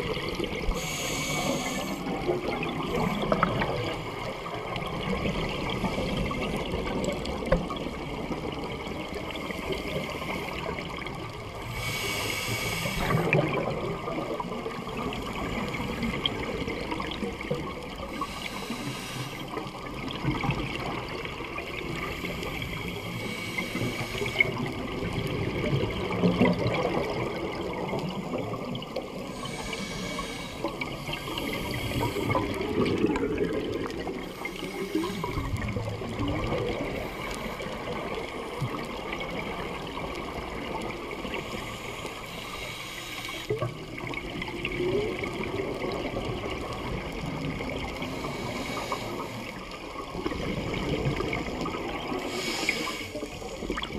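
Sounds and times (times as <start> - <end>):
underwater bubbles gurgling: 0.0 - 53.9.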